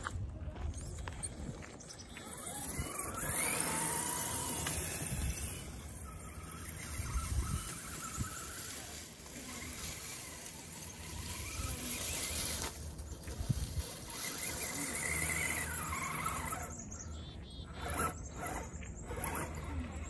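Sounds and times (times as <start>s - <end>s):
electric motor whining: 2.0s - 20.0s.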